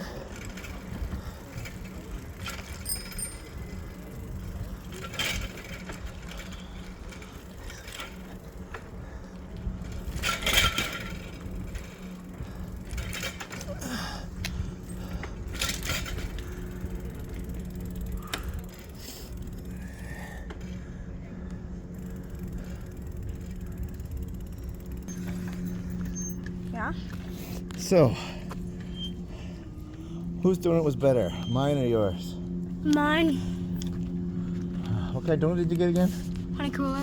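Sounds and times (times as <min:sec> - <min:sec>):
bicycle parts rattling and clicking: 0:00.0 - 0:37.0.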